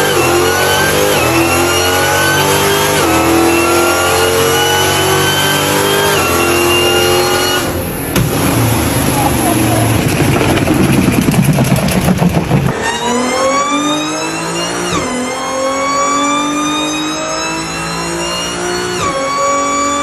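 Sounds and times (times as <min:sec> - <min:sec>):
supercharged engine accelerating: 0:00.0 - 0:20.0.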